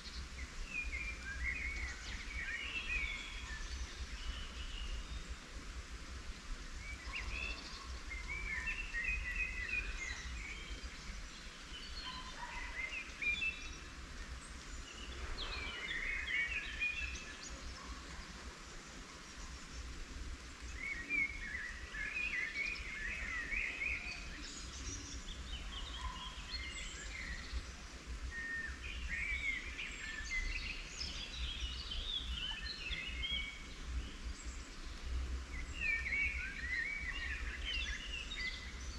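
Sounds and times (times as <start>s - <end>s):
songbirds chirping and warbling: 0.0s - 38.9s.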